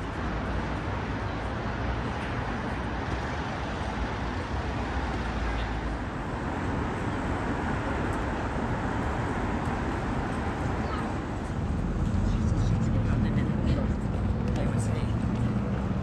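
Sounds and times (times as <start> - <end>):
road traffic rumble and hiss: 0.0 - 16.0.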